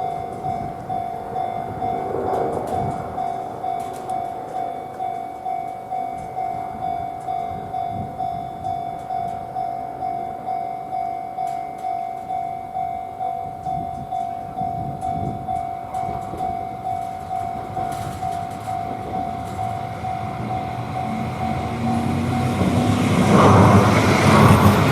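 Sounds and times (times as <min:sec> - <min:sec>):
level crossing bell ringing: 0:00.0 - 0:23.2
tram rumbling on track: 0:00.0 - 0:24.9.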